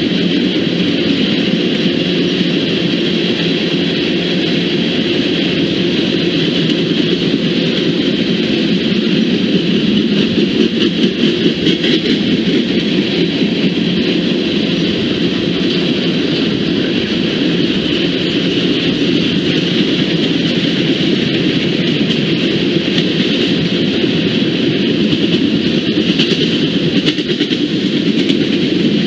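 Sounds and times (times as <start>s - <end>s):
train passing on rails: 0.0s - 29.0s.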